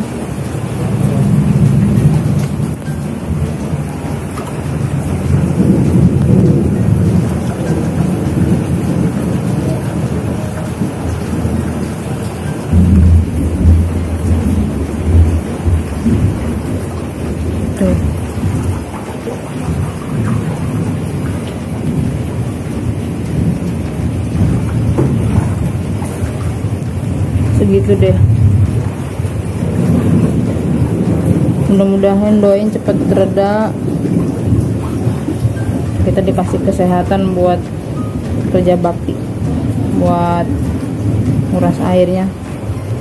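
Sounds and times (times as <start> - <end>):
heavy rain pouring: 0.0 - 43.0
low rumble of thunder: 0.0 - 43.0.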